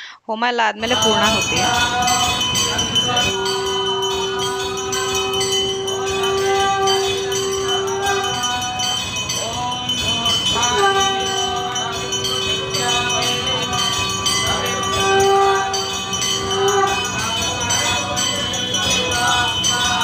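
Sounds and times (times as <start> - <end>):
long held musical note: 0.8 - 19.2
bell-like ringing: 0.8 - 20.0
sliding notes: 0.8 - 20.0.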